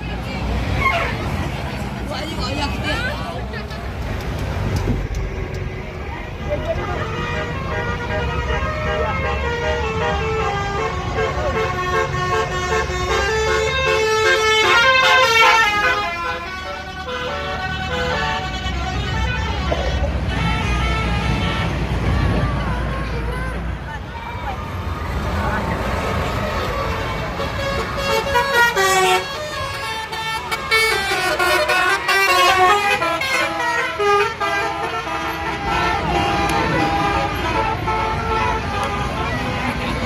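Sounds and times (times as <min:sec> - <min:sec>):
low rumble of road traffic: 0:00.0 - 0:40.0
bus musical horn melody: 0:05.2 - 0:23.8, 0:26.2 - 0:40.0.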